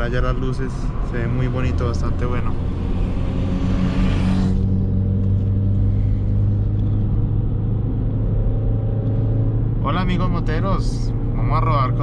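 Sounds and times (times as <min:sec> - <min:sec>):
car engine droning under load: 0:00.0 - 0:12.0.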